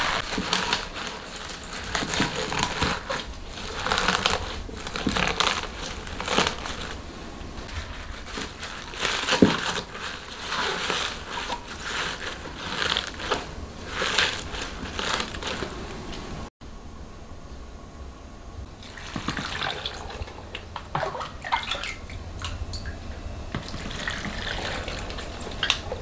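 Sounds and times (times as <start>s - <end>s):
leafy vegetables rustling and crunching: 0.0s - 16.5s, 18.8s - 26.0s.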